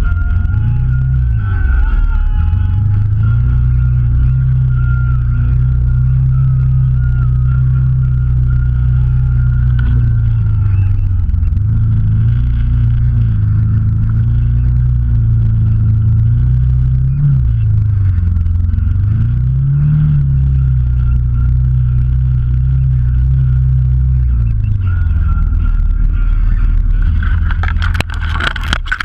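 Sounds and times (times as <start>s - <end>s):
vehicle engine running at low revs: 0.0s - 29.0s.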